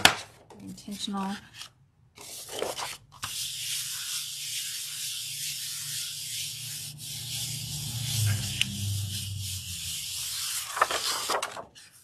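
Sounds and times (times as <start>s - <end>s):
hands rubbing paper: 0.8s - 12.0s.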